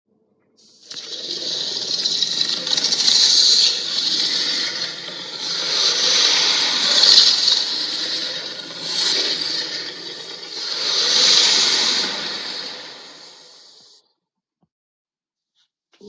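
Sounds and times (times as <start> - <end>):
harsh monster hiss: 0.8 - 13.9.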